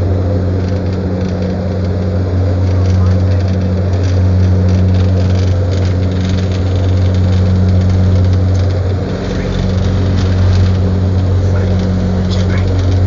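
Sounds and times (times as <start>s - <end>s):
airliner engines humming: 0.0s - 13.0s.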